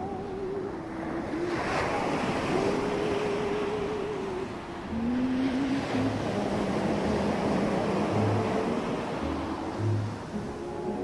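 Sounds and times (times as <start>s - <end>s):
ocean surf washing on beach: 0.0s - 11.0s.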